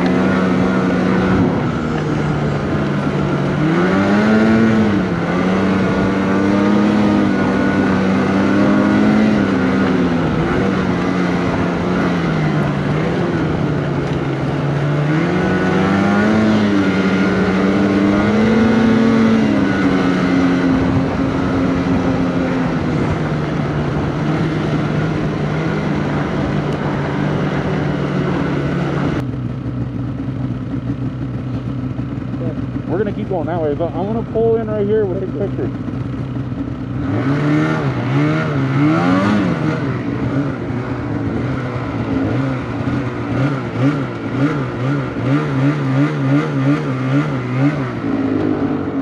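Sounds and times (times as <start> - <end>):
snowmobile engine running: 0.0 - 49.0.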